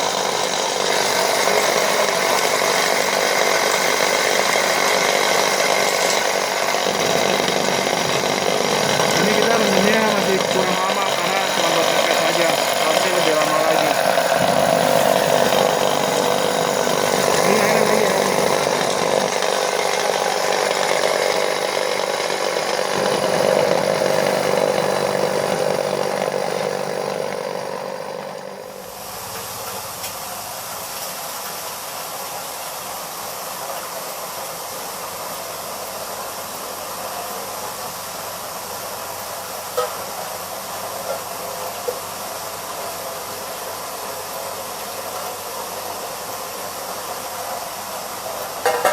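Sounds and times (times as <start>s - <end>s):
soya milk machine grinding: 0.0s - 48.9s.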